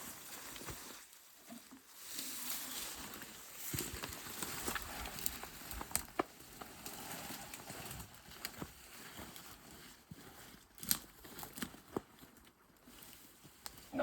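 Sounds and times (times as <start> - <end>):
branches knocking and rustling: 0.1 - 9.3, 10.4 - 13.9.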